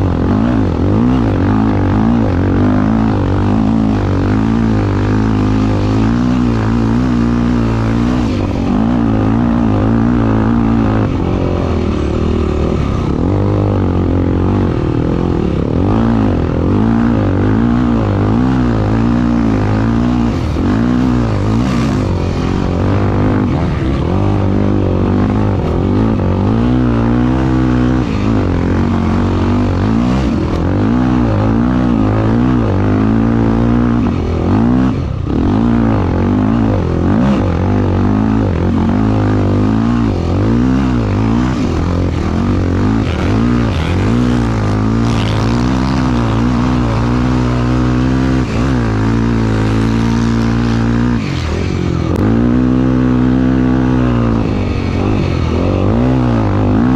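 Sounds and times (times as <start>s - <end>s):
racing engine revving: 0.0s - 56.9s.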